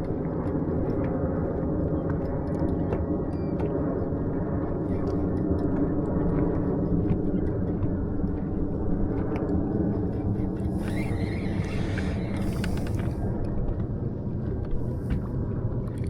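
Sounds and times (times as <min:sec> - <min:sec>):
boat motor humming: 0:00.5 - 0:16.0.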